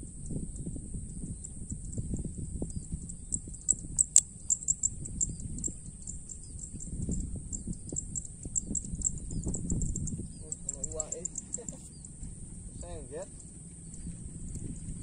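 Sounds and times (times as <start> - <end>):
high-pitched insect trilling: 0.1 - 15.0.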